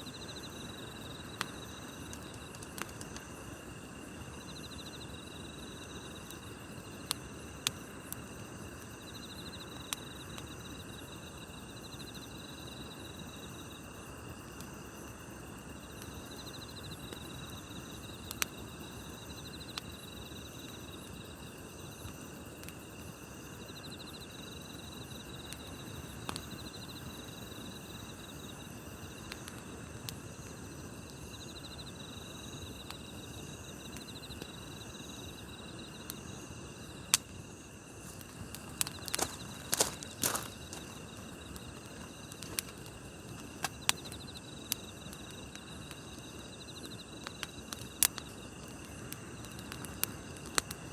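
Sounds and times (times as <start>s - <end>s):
crickets and insects trilling: 0.0s - 50.9s
campfire crackling and popping: 0.1s - 50.9s.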